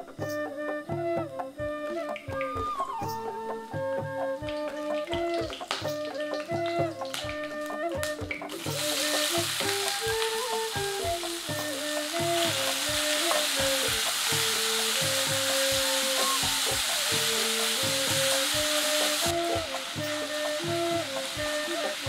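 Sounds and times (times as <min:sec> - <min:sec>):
onions sizzling in hot oil: 0:00.2 - 0:22.0.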